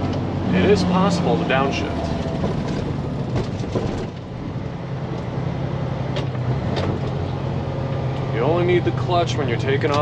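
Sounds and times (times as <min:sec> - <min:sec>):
diesel truck engine downshifting: 0:00.0 - 0:10.0.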